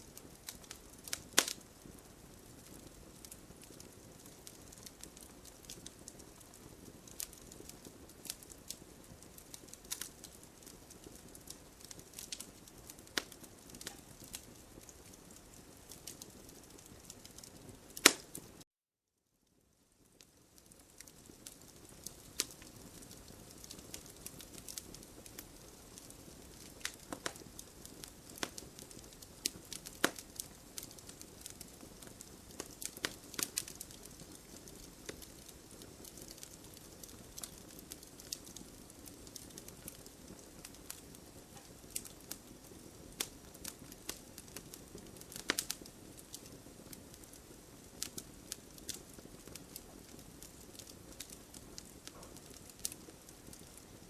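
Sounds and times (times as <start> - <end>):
campfire crackling and popping: 0.0 - 18.6, 19.5 - 54.0
fire hissing: 0.1 - 18.6, 20.9 - 54.0.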